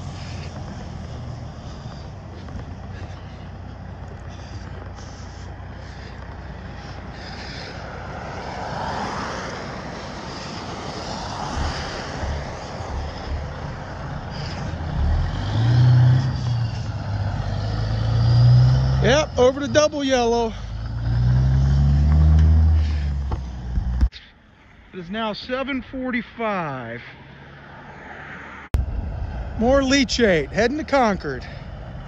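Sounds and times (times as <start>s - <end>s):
truck diesel engine rumbling: 0.0s - 24.3s, 28.8s - 32.0s.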